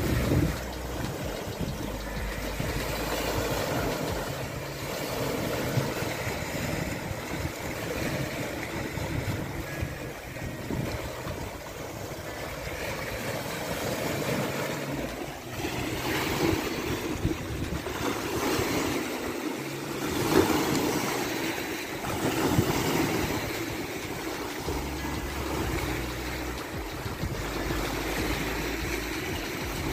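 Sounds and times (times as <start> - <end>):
waves breaking and washing in: 0.0 - 29.9
wind rumbling on microphone: 0.0 - 29.9.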